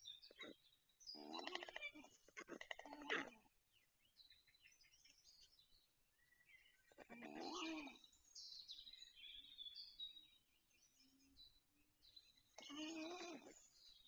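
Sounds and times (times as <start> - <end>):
songbirds chirping and trilling: 0.0 - 14.0.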